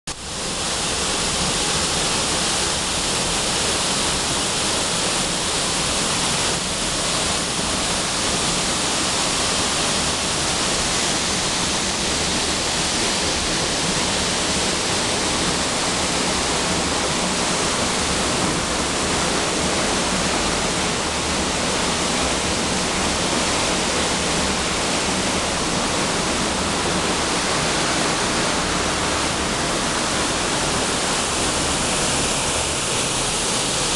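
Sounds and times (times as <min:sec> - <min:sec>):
waterfall rushing and splashing: 0:00.1 - 0:33.9.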